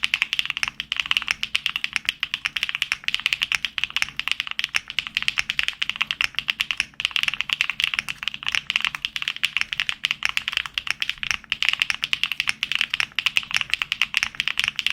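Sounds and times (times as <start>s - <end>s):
mechanical keyboard typing: 0.0s - 14.9s.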